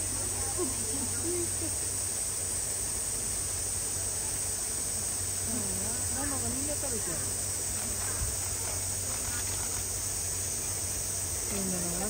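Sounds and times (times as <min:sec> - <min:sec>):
faint voices: 0:00.0 - 0:02.2, 0:03.9 - 0:12.0
cicadas droning: 0:00.0 - 0:12.0.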